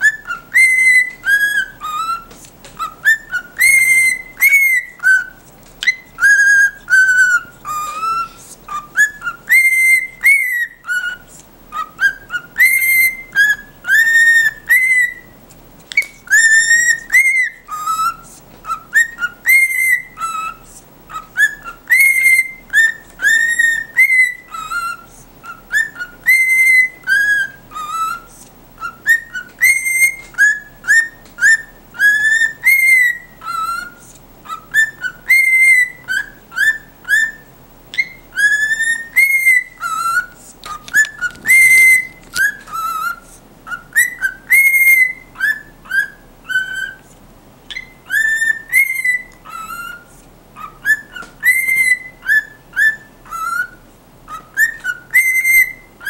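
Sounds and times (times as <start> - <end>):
cockatiel whistling a tune: 0.0 - 56.0.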